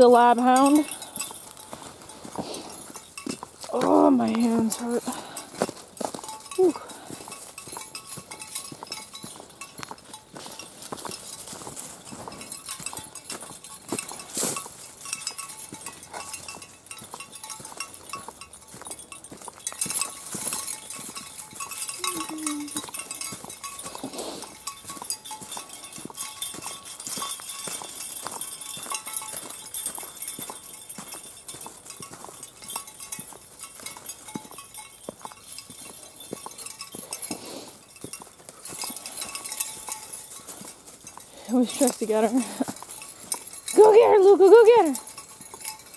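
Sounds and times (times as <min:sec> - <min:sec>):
dog collar tags jingling: 0:00.0 - 0:45.9
footsteps crunching on frozen ground: 0:00.0 - 0:45.9
light metallic clinking: 0:00.0 - 0:45.9.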